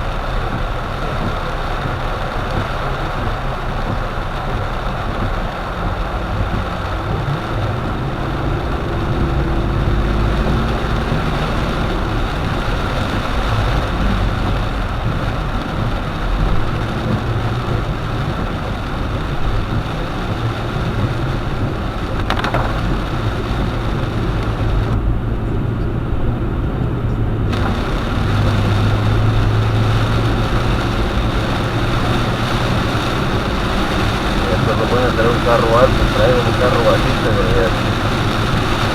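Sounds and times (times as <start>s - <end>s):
car engine hum: 0.0s - 38.9s
hiss of rain and wet tyres: 0.0s - 38.9s.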